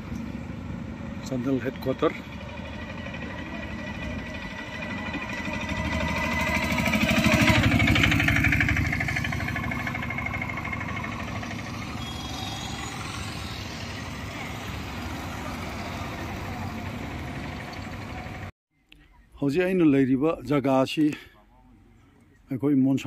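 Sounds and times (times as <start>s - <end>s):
scooter engine passing: 0.0s - 18.5s
street traffic: 0.0s - 19.3s.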